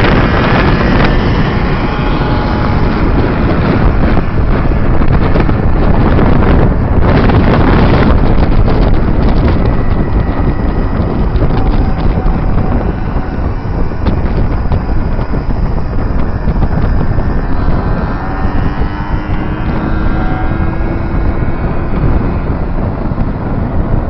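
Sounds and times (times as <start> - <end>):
small engine whine: 0.0 - 24.0
wind buffeting microphone: 0.0 - 24.0.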